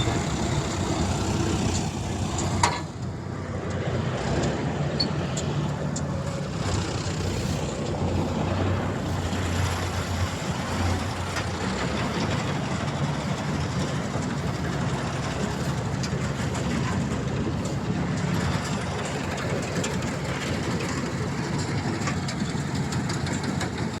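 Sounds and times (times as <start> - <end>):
harvester engine rattling: 0.0 - 24.0.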